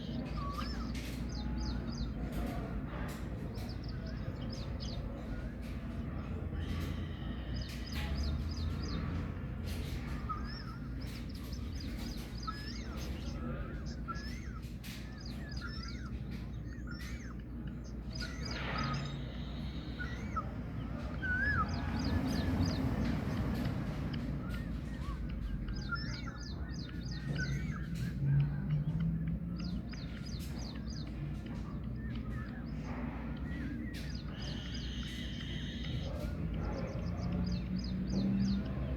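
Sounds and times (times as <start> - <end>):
birds chirping: 0.0 - 38.9
steady low hum: 0.0 - 38.9
whistled bird calls: 0.0 - 38.9.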